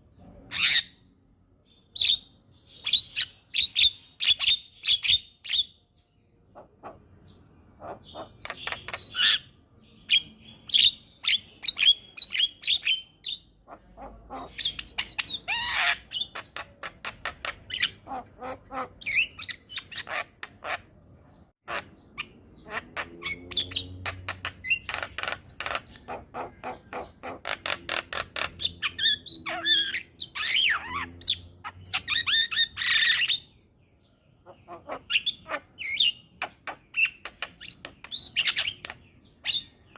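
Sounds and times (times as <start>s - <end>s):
myna bird chattering and squawking: 0.1s - 1.0s, 6.5s - 33.6s, 34.4s - 39.9s.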